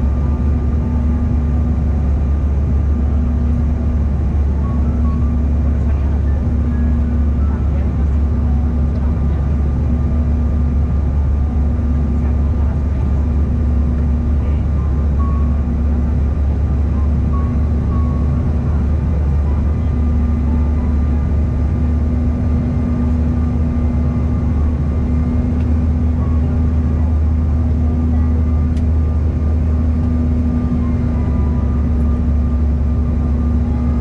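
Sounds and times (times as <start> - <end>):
jet engine drone in cabin: 0.0 - 34.0.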